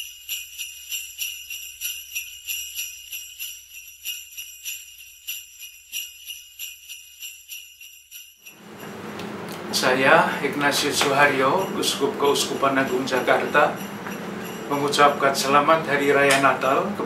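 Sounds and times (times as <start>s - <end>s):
jingle bells shaken: 0.0s - 9.1s, 9.7s - 17.0s.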